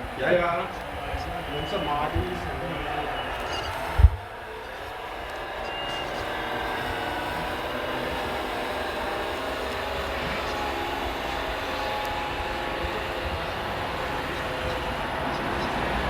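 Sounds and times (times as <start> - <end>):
small electric motors whirring: 0.0 - 16.0
thin whines: 0.0 - 16.0.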